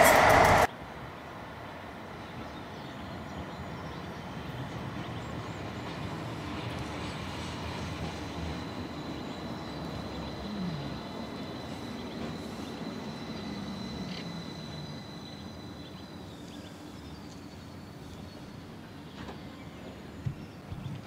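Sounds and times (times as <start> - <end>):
tram high whine: 0.0 - 21.0.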